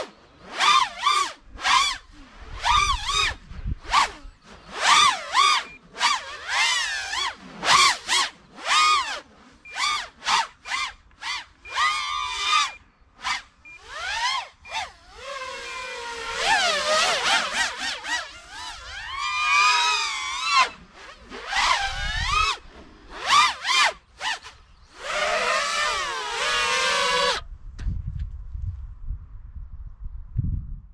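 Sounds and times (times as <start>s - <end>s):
drone motors whining: 0.0s - 27.4s.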